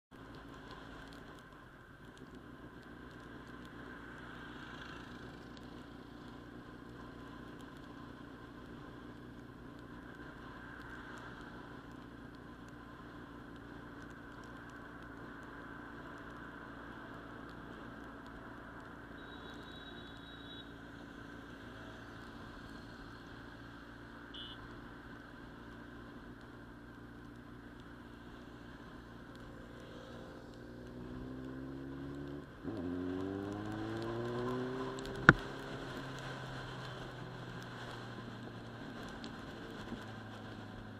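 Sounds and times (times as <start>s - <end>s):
motorcycle engines running: 0.2s - 40.9s.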